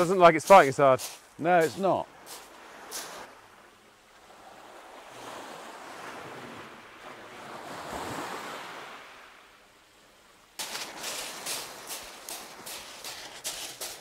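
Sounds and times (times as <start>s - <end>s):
waves on a shingle beach: 0.0s - 14.0s.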